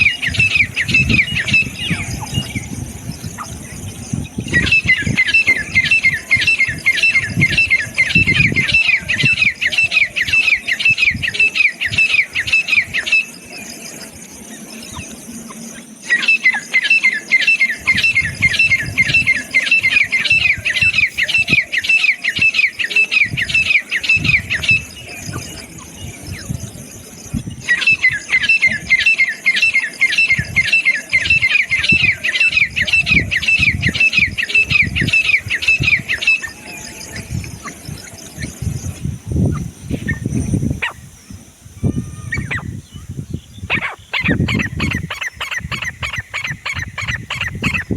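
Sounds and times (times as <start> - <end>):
francolin calling: 0.0 - 47.9.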